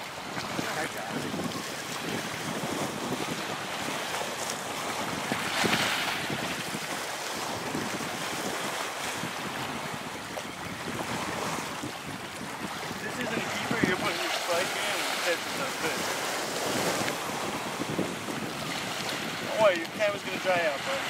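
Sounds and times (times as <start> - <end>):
small waves washing on shore: 0.0 - 21.0
wind buffeting microphone: 0.0 - 21.0.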